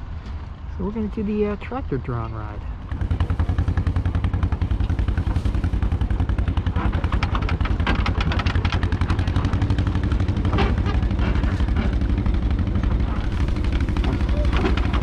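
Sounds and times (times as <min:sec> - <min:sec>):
tractor engine chugging: 0:02.8 - 0:15.0
rattling: 0:02.9 - 0:15.0.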